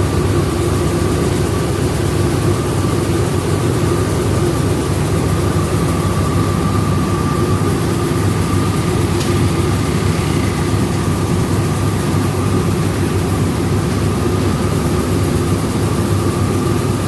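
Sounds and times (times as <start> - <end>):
machinery whine: 0.0 - 17.0
milling machinery drone: 0.0 - 17.0.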